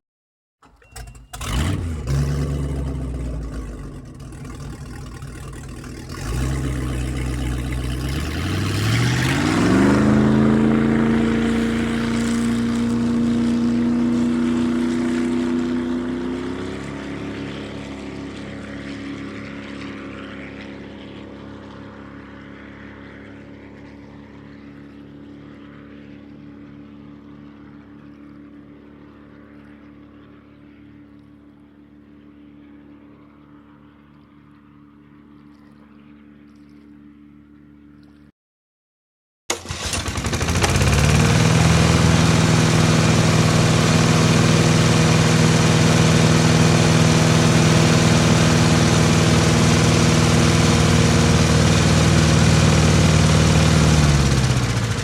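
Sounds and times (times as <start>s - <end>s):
engine revving to high drone: 1.4s - 38.2s, 39.5s - 55.0s.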